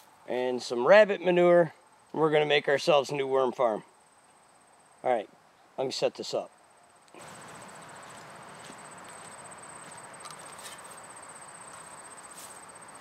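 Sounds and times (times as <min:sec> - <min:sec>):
crickets trilling: 0:00.0 - 0:13.0
outdoor hiss: 0:00.0 - 0:13.0.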